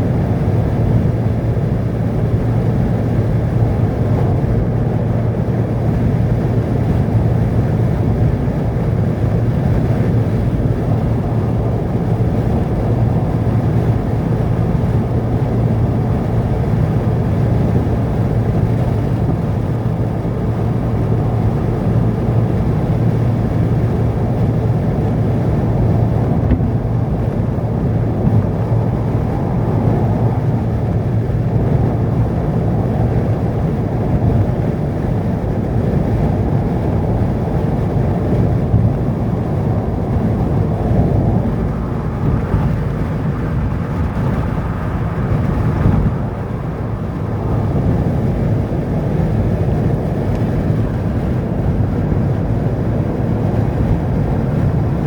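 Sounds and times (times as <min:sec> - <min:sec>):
vehicle driving on road: 0:00.0 - 0:55.0.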